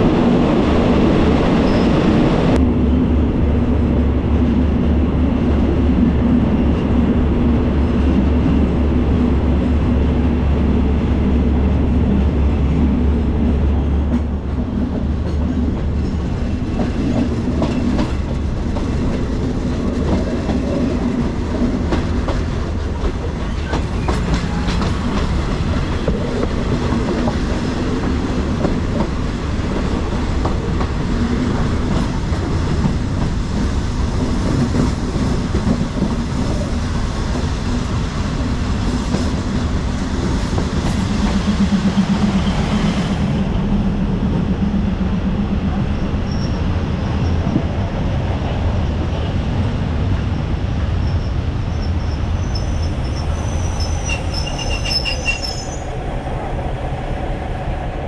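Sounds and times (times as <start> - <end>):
train wheels rumbling on rails: 0.0 - 58.0
clickety-clack of rail joints: 3.7 - 56.0.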